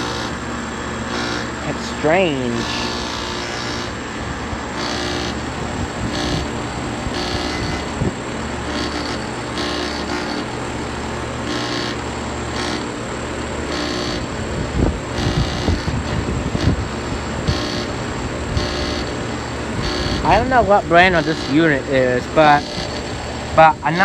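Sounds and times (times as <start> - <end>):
rattling hiss: 0.0 - 13.6, 14.2 - 24.0
air conditioner humming: 0.0 - 24.0.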